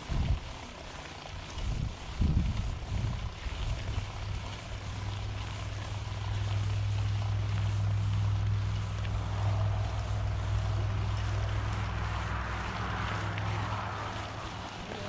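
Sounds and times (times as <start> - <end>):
wind rumble on microphone: 0.0 - 0.5, 1.4 - 15.0.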